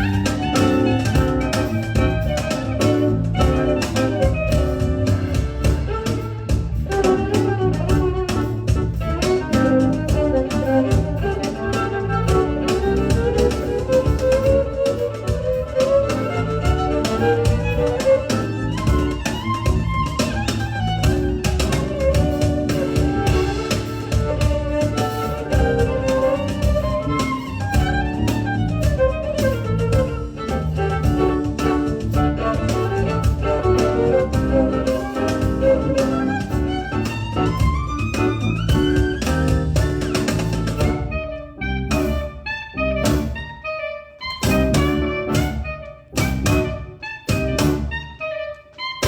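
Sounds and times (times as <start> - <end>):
steady drumming: 0.0 - 41.3, 41.9 - 43.4, 44.3 - 48.0
bowed string melody: 0.0 - 48.4.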